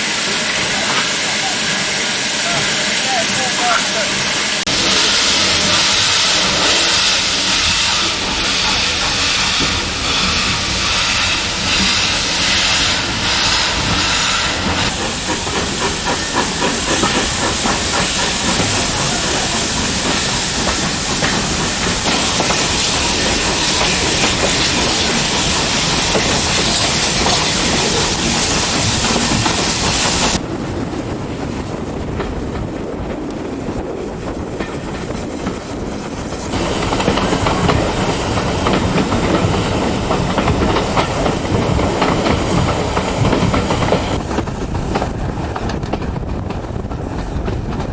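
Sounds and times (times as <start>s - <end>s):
loud steam hissing: 0.0s - 30.4s, 35.0s - 45.5s
rhythmic beat of running train: 0.0s - 30.4s, 32.0s - 47.9s
low train rumble: 0.0s - 47.9s.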